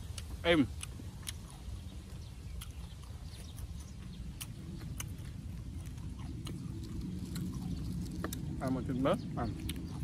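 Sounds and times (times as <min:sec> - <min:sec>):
chewing raw greens: 0:00.0 - 0:10.0
low rumble: 0:00.0 - 0:10.0.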